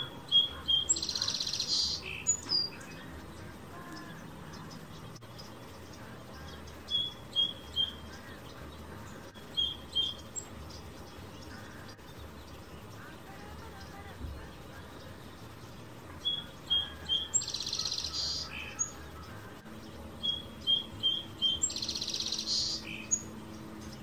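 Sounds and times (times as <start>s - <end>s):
fast buzzy bird trill: 0.0s - 24.0s
songbird chirping: 0.0s - 24.0s.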